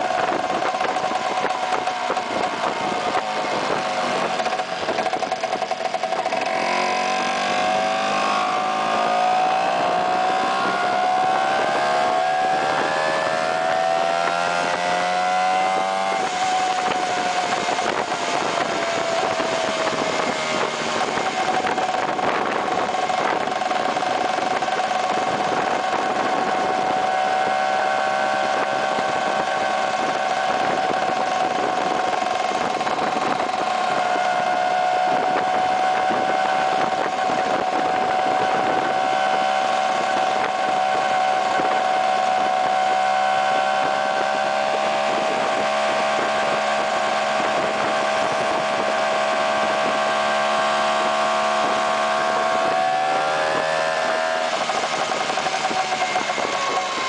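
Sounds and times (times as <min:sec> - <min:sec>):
scooter engine cruising: 0:00.0 - 0:57.0
wind and road noise: 0:00.0 - 0:57.0.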